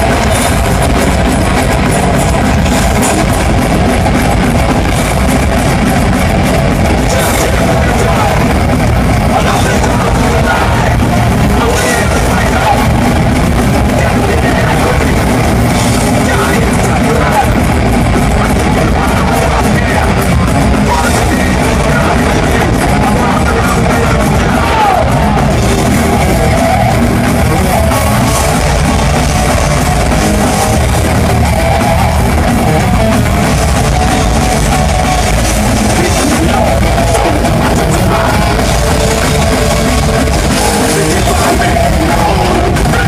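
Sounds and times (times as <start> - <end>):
fast drums: 0.0 - 43.0
heavy distorted guitars: 0.0 - 43.0.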